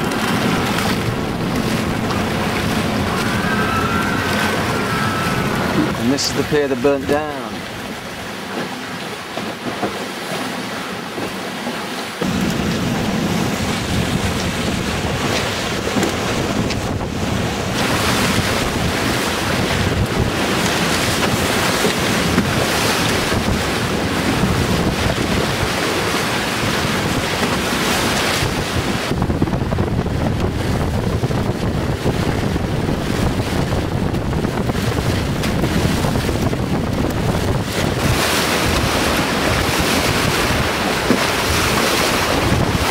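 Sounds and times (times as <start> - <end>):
wind buffeting microphone: 0.0 - 8.3, 12.2 - 42.9
water rushing past hull: 0.0 - 42.9.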